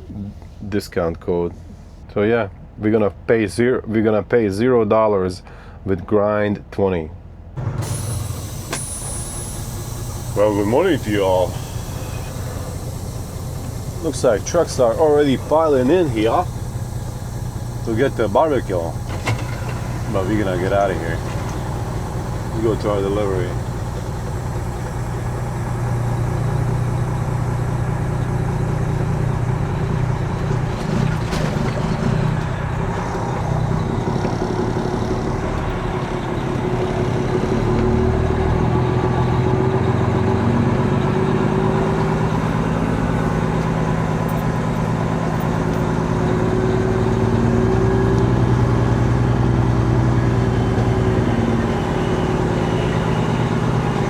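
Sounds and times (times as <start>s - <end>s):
diesel truck engine driving: 0.0s - 54.0s.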